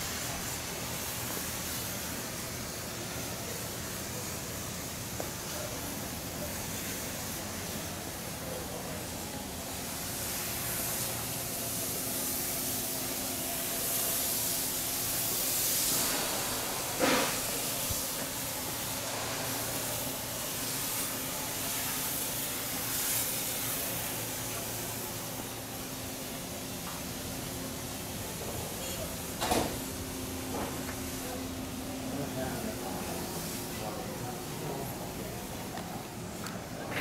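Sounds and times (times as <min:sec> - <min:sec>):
steady hissing noise: 0:00.0 - 0:37.0.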